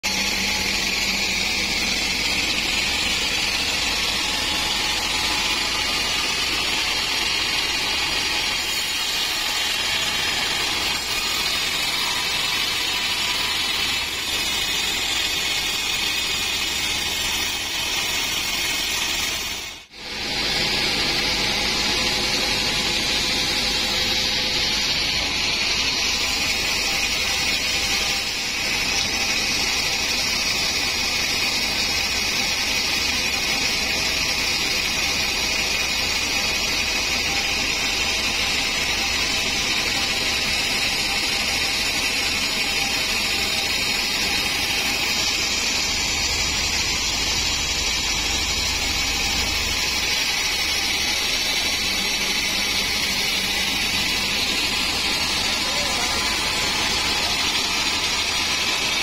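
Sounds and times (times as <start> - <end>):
band saw running: 0.0 - 59.0.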